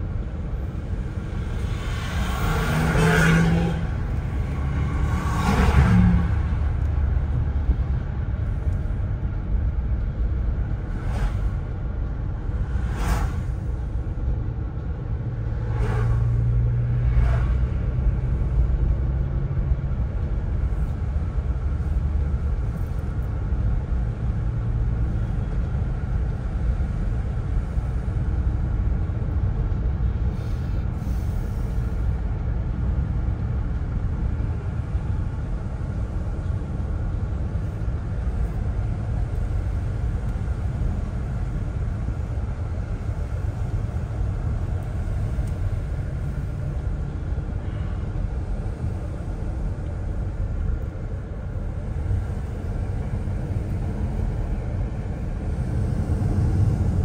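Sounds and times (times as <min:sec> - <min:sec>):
car cabin road rumble: 0:00.0 - 0:57.0.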